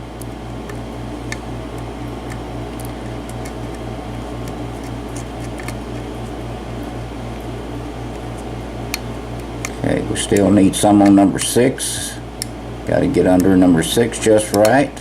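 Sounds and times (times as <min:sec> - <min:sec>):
mechanical fan hum: 0:00.0 - 0:15.0.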